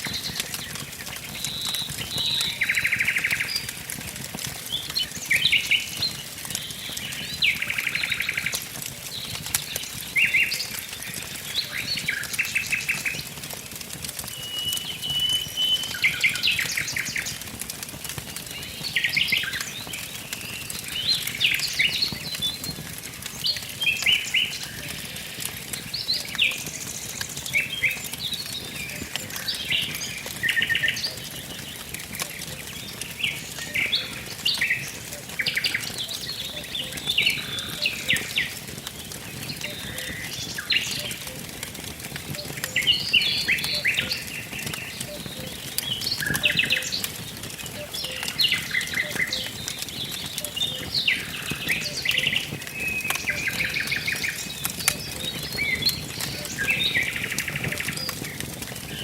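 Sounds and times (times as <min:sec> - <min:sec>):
songbirds chirping and trilling: 0:00.0 - 0:59.0
wood fire crackling: 0:00.0 - 0:59.0.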